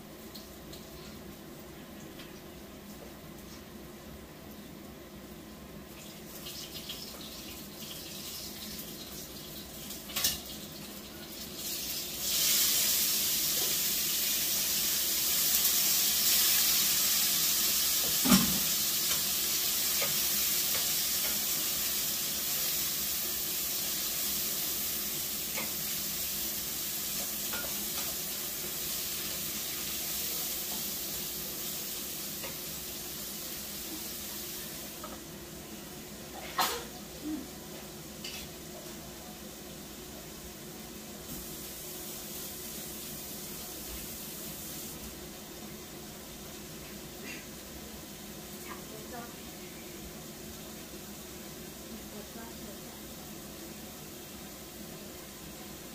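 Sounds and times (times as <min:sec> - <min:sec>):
food sizzling in a pan: 0:00.0 - 0:55.9.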